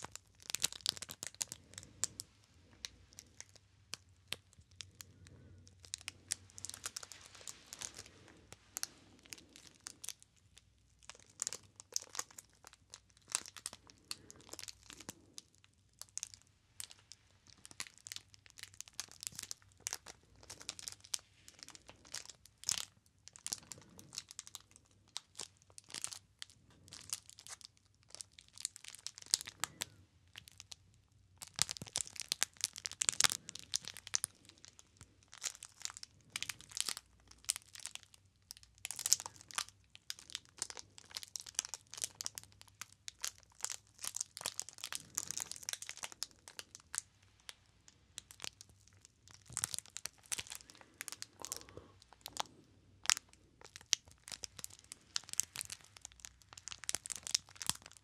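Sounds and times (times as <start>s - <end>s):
plastic wrapper crinkling: 0.0s - 58.0s.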